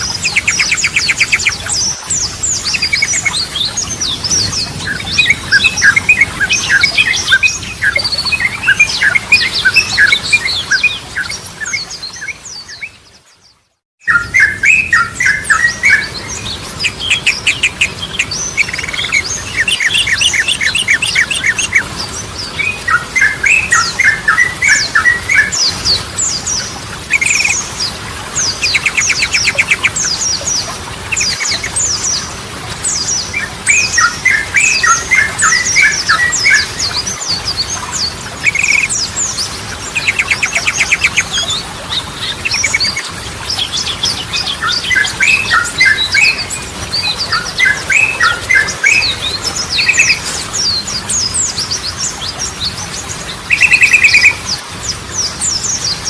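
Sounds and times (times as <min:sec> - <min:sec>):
bulbul warbling song: 0:00.0 - 0:56.0.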